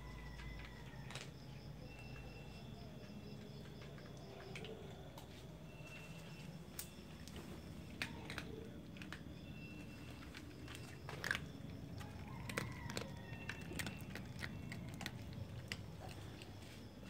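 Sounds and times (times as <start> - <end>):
cats crunching dry kibble: 0.0 - 2.3, 3.1 - 5.6, 6.6 - 17.0.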